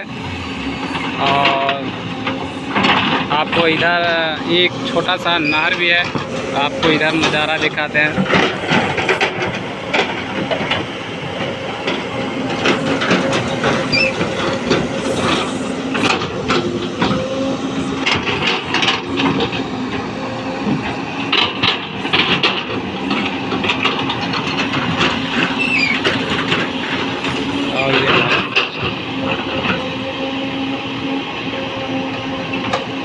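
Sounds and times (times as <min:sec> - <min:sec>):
excavator diesel engine running: 0:00.0 - 0:33.0
metallic clanks and knocks: 0:00.9 - 0:04.2, 0:04.9 - 0:20.0, 0:20.6 - 0:29.8.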